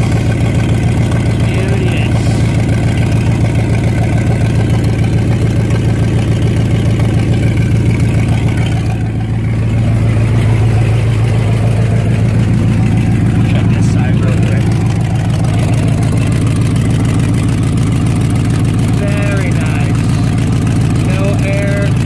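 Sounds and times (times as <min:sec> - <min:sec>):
engine idling through exhaust: 0:00.0 - 0:22.0.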